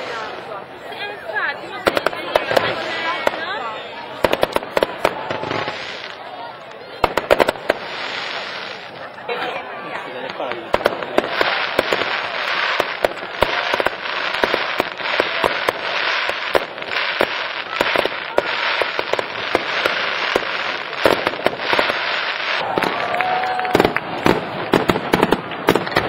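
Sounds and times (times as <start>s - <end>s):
fireworks crackling and popping: 0.0s - 26.0s
deep firework bangs: 1.8s - 6.2s, 6.9s - 9.1s, 10.2s - 26.0s.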